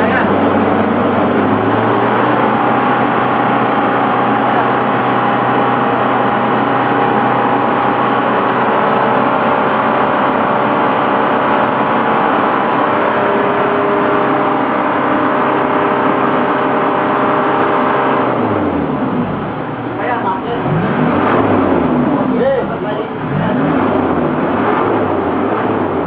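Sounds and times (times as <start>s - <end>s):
diesel engine revving: 0.0s - 26.0s.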